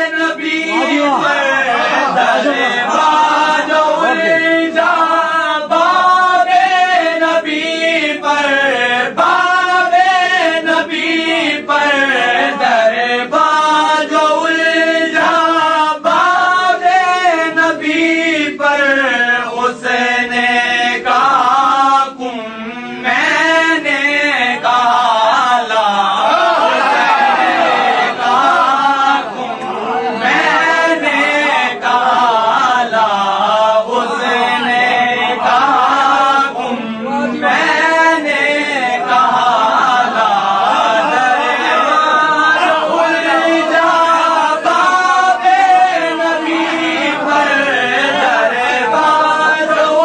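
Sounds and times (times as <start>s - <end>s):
man chanting: 0.0s - 50.0s.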